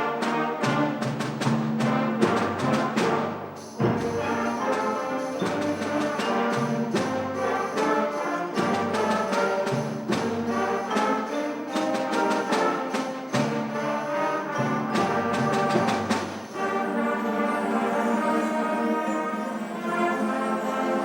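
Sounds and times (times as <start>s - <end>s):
percussion hits: 0.0s - 18.6s
brass and winds chords: 0.0s - 21.0s.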